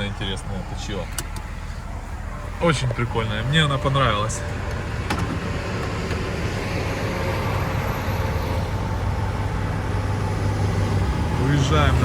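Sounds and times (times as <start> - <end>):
vehicle road and engine noise: 0.0 - 12.0.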